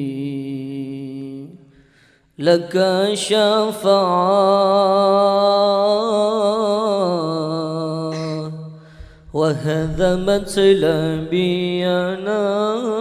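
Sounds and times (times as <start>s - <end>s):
man chanting: 0.0s - 1.7s, 2.4s - 13.0s.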